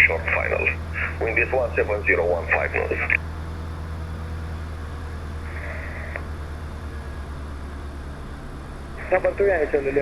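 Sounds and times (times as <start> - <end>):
piston engine droning: 0.0 - 10.0.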